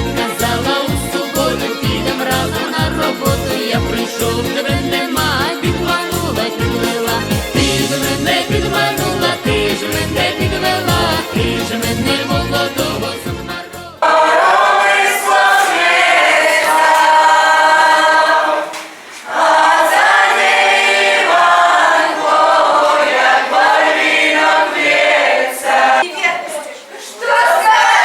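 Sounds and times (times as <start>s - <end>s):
group of voices singing: 0.0s - 26.1s.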